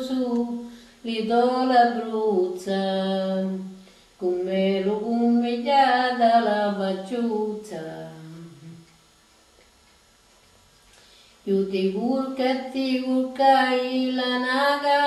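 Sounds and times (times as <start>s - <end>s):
elderly woman singing lullaby: 0.0s - 8.9s, 11.5s - 15.0s.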